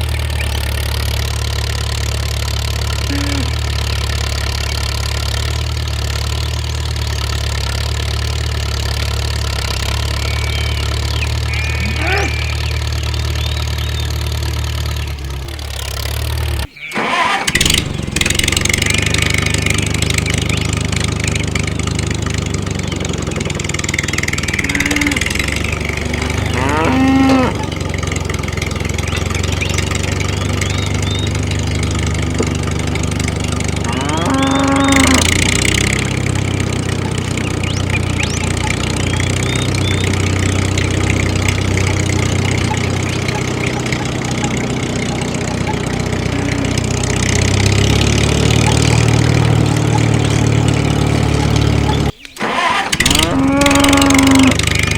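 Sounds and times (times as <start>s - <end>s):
engine idling: 0.0s - 54.9s
short pitched sounds: 2.3s - 4.8s, 9.8s - 14.3s, 15.0s - 54.9s.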